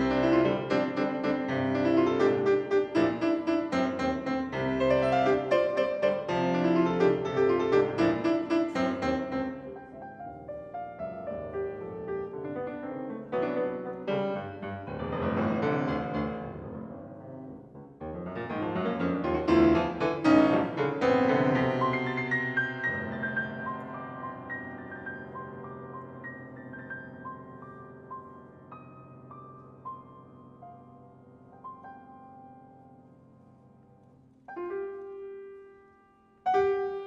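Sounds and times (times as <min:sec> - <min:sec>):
solo grand piano playing: 0:00.0 - 0:37.0.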